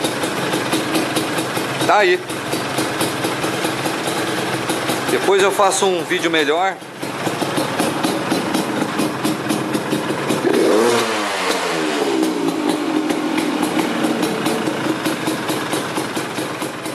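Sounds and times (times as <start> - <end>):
two-stroke engine idling and revving: 0.0 - 16.9.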